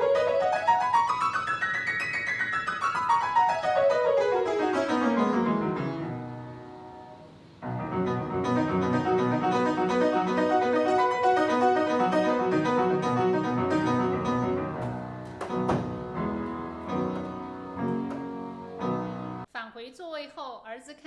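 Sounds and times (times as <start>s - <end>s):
upright piano playing: 0.0s - 19.5s.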